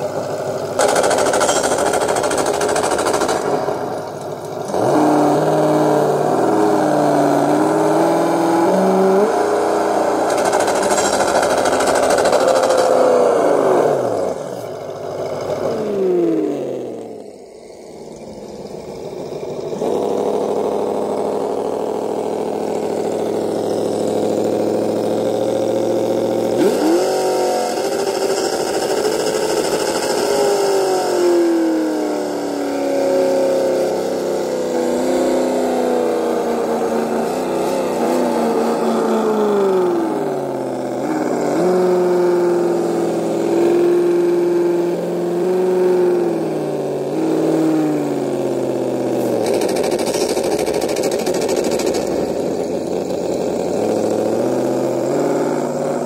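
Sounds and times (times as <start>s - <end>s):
engine revving: 0.0s - 56.0s.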